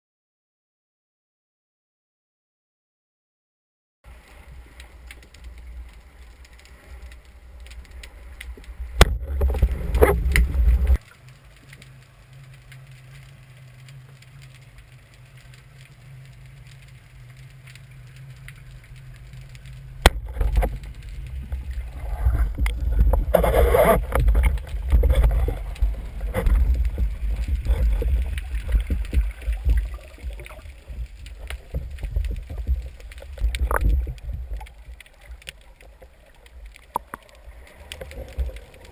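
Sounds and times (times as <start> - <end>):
underwater rushing water: 4.1 - 38.9.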